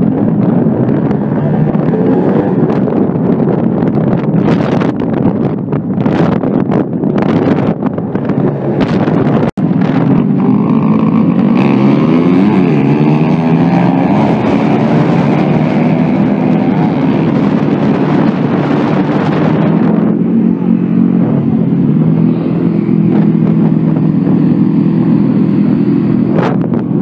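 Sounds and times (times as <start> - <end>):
motorcycle engines revving: 0.0 - 27.0
wind buffeting microphone: 0.0 - 27.0.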